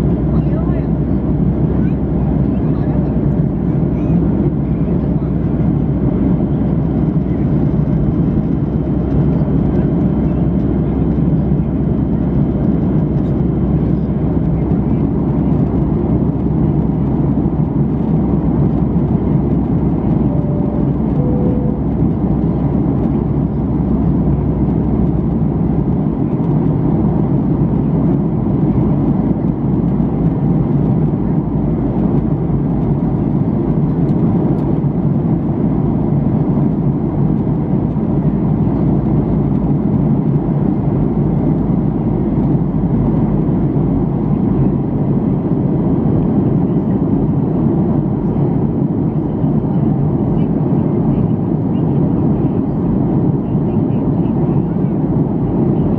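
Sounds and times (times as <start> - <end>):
airliner cabin noise: 0.0 - 55.9.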